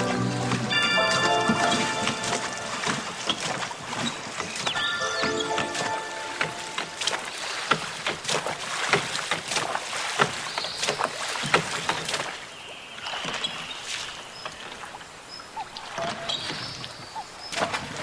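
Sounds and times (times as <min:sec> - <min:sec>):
oars splashing in water: 0:00.0 - 0:18.0.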